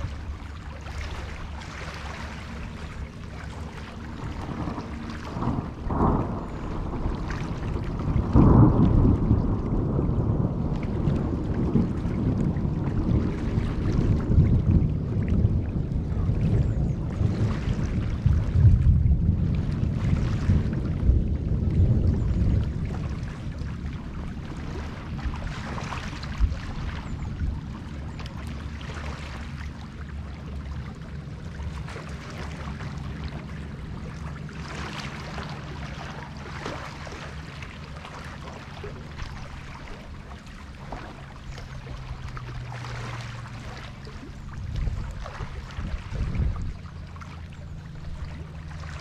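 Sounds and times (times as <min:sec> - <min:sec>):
rain: 0:00.0 - 0:45.4
low rumble: 0:00.0 - 0:49.0
water lapping around a jetty: 0:00.0 - 0:49.0.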